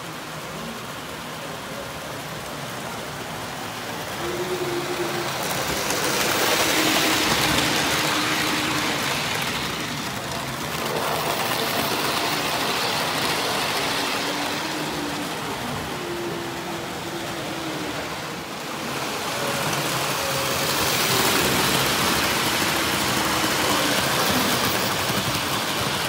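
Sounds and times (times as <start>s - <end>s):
model train wheels rattling: 1.9s - 26.0s.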